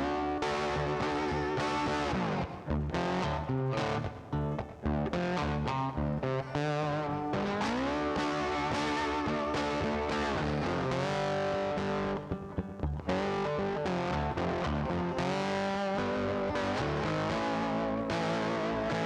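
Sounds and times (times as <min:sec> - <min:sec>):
bass: 0:00.0 - 0:19.0
distorted electric guitar: 0:00.0 - 0:19.0.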